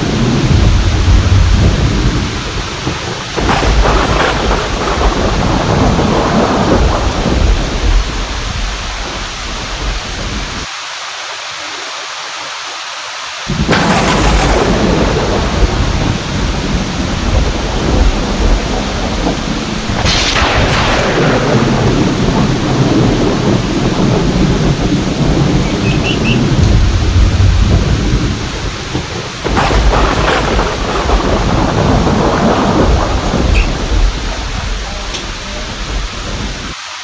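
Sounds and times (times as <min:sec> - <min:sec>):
sharp thunderclap: 0:00.0 - 0:10.6, 0:13.5 - 0:36.7
deep rolling thunder: 0:00.0 - 0:10.7, 0:13.5 - 0:36.8
heavy rain: 0:00.0 - 0:37.0.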